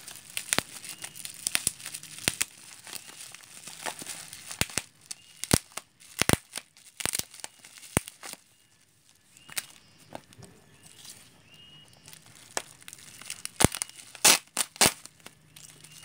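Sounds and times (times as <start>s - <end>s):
bubble wrap snapping: 0.0s - 10.4s, 12.0s - 16.0s
bubble wrap crinkling: 0.0s - 16.0s.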